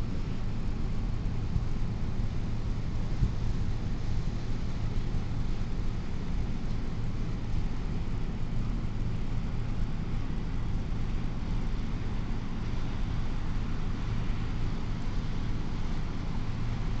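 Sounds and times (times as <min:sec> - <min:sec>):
ship machinery droning hum: 0:00.0 - 0:17.0.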